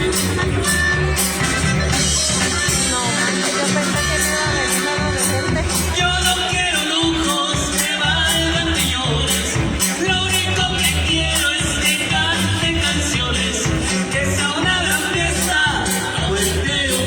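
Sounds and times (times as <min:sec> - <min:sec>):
band playing: 0:00.0 - 0:17.0
sung lead vocal: 0:00.0 - 0:17.0.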